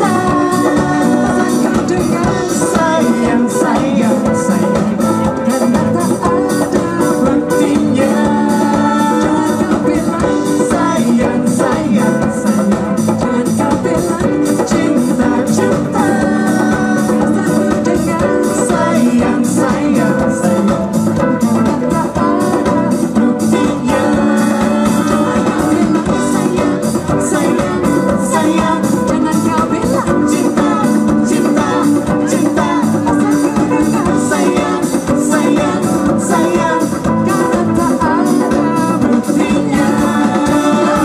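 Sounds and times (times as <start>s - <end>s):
drum kit beat: 0.0s - 41.0s
live band playing: 0.0s - 41.0s
person singing: 0.0s - 41.0s.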